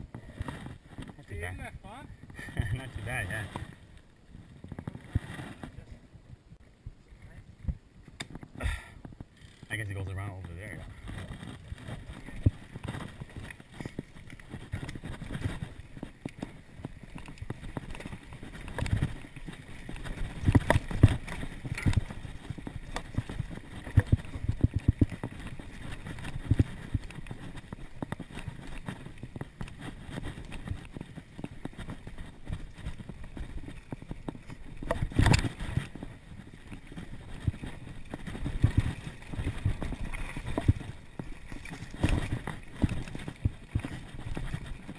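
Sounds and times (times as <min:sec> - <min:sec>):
mountain bike rattling and knocking: 0:00.0 - 0:05.9, 0:08.1 - 0:44.9.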